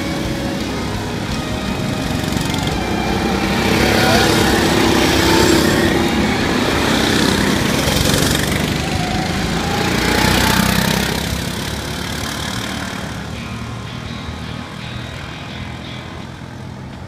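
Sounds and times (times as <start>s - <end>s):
go-kart engines passing: 0.0s - 17.0s.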